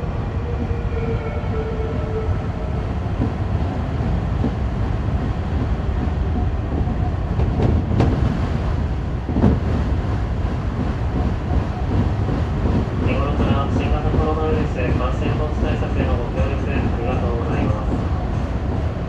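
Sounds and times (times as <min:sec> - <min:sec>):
train rumbling from inside: 0:00.0 - 0:19.0.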